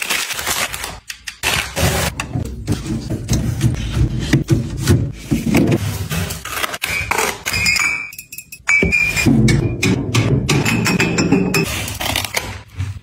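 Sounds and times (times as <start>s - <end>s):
kitchen items scraping and tapping: 1.9s - 13.0s.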